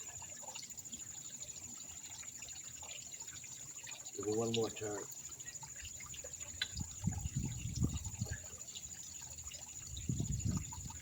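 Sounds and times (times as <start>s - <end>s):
pond water splashing: 0.0s - 11.0s.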